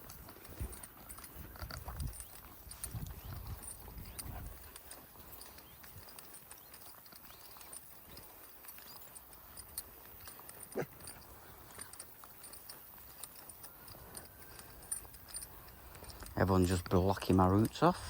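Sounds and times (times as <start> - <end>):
quiet footsteps: 0.0 - 18.0
small clicks from dog leads: 0.0 - 18.0.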